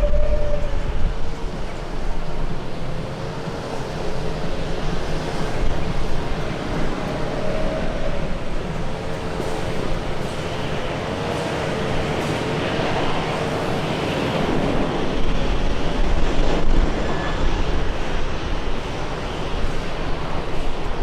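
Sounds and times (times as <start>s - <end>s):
jet engines of passing plane: 0.0s - 21.0s
wind rumble on microphone: 0.0s - 21.0s.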